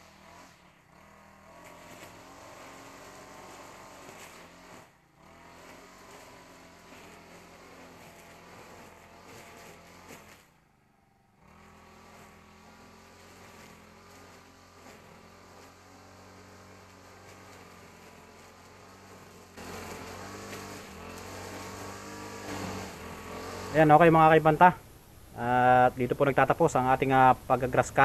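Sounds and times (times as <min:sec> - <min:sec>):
brush cutter running: 0:00.0 - 0:28.0.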